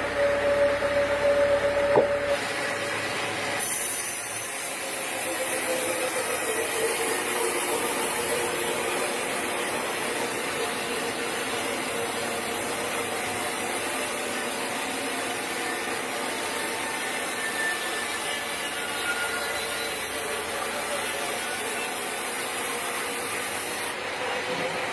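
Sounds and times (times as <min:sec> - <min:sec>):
saw cutting through log: 0:02.2 - 0:24.1.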